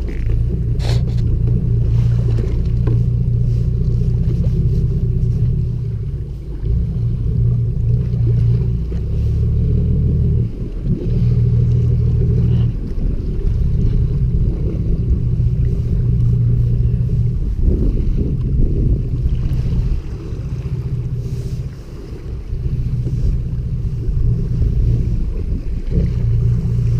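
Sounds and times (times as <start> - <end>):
boat engine droning: 0.0 - 26.9.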